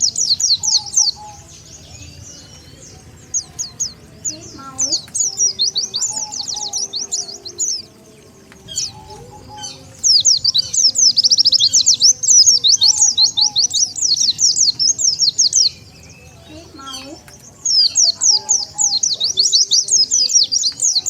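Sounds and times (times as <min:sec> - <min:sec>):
bird twittering: 0:00.0 - 0:21.0.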